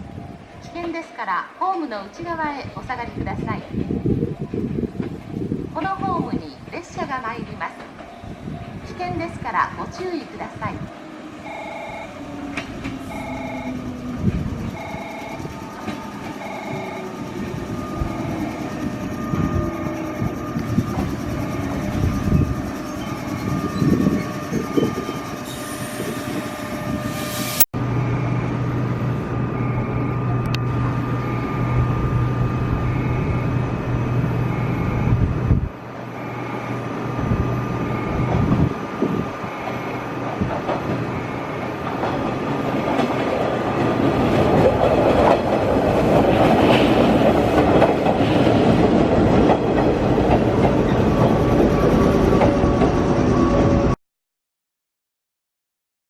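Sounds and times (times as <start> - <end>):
train electrics humming: 0.0 - 54.0
train wheels rumbling on rails: 2.3 - 54.0.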